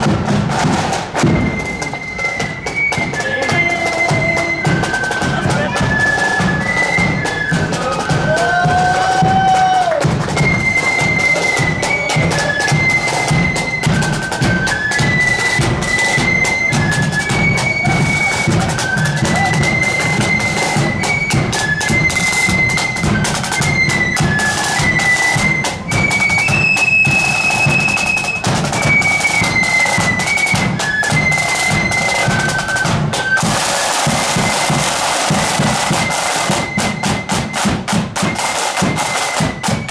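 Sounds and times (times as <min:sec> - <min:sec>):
rolling snare drums: 0:00.0 - 0:39.9
shrill flutes in unison: 0:01.1 - 0:39.9.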